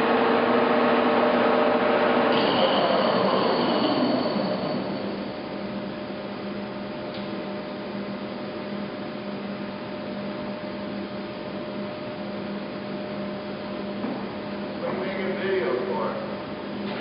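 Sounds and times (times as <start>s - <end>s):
lathe motor humming with whine: 0.0s - 16.9s.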